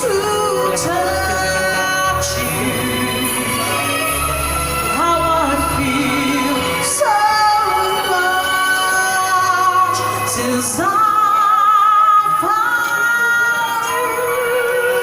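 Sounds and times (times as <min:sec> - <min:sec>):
musical accompaniment: 0:00.0 - 0:15.0
woman singing with vibrato: 0:00.0 - 0:15.0.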